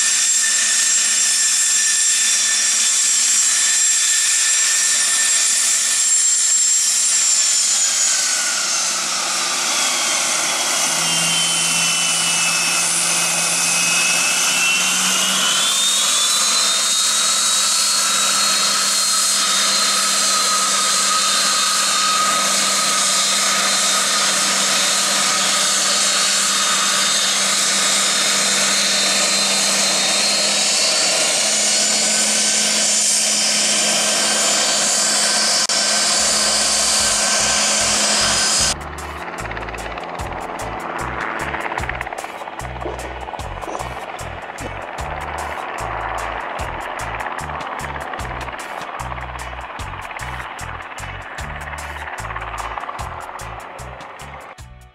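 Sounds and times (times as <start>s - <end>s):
jet engines whining: 0.0s - 54.6s.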